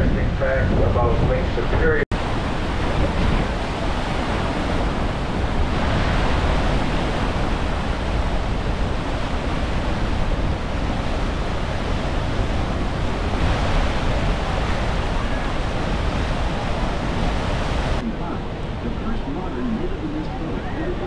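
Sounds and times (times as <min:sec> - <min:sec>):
wind buffeting microphone: 0:00.0 - 0:21.0
waterfall rushing: 0:02.2 - 0:21.0.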